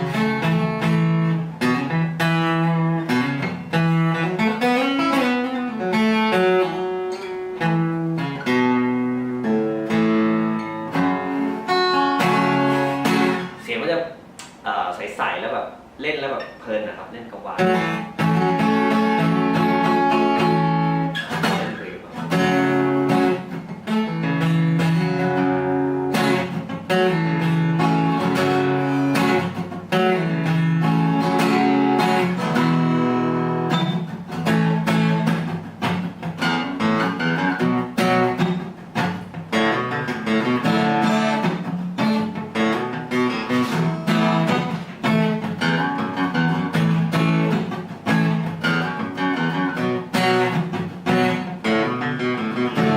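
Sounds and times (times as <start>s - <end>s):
acoustic guitar plucked melody: 0.0s - 14.6s, 15.8s - 52.9s.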